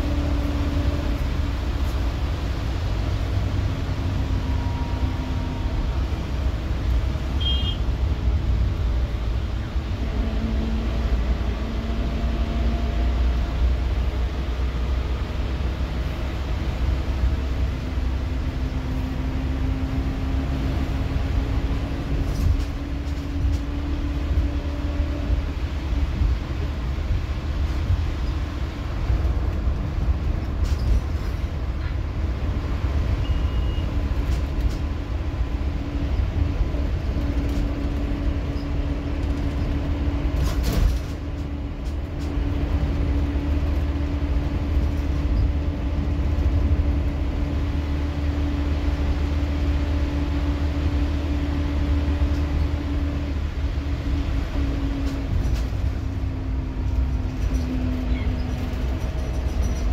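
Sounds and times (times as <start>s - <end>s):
bus diesel engine rumble and whine: 0.0s - 59.9s.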